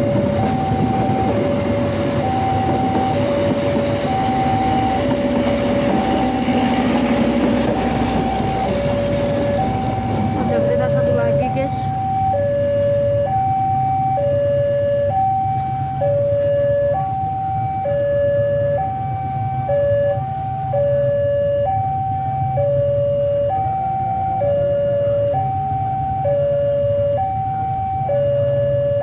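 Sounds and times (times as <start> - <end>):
two-tone crossing alarm: 0.0 - 29.0.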